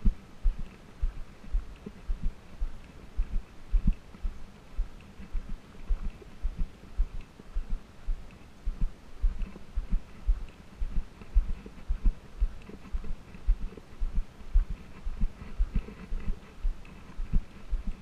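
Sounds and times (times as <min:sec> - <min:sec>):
footsteps on dirt trail: 0:00.0 - 0:18.0.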